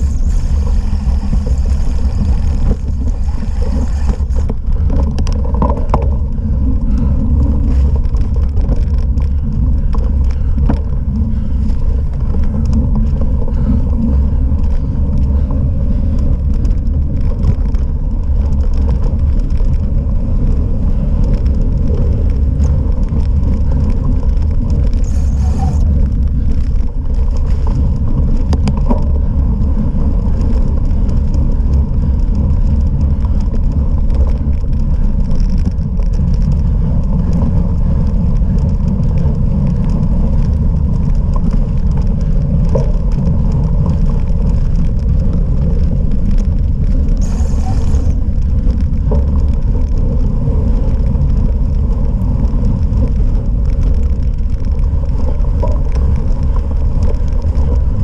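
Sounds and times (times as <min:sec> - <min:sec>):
bike rattles and knocks: 0:00.0 - 0:58.0
tyres rumbling on rough ground: 0:00.0 - 0:58.0
wind on microphone: 0:00.0 - 0:58.0.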